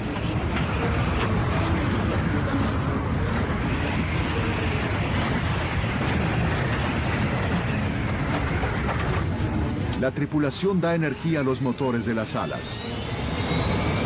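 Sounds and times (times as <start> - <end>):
aircraft engine noise: 0.0 - 14.0.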